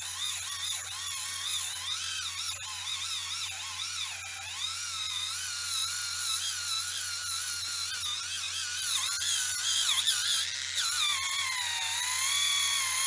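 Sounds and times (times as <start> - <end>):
electric callus remover whining: 0.0 - 13.0.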